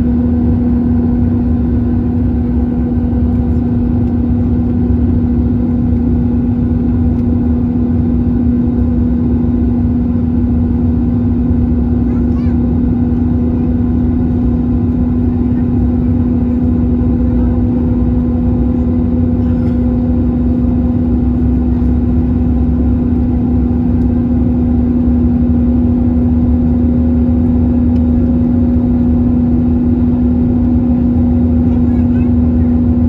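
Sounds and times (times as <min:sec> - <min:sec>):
airplane engines droning: 0:00.0 - 0:33.0
constant low hum: 0:00.0 - 0:33.0.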